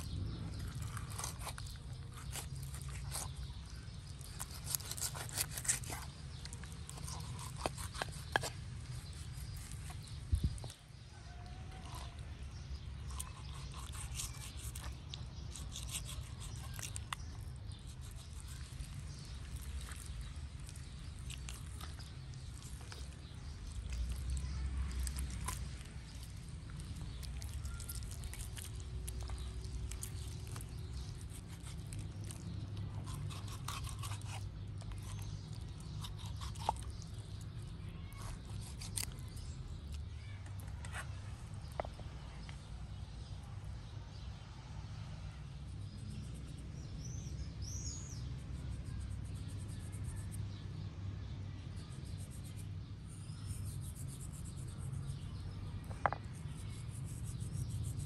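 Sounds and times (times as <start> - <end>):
low outdoor rumble: 0.0 - 14.0, 14.7 - 58.0.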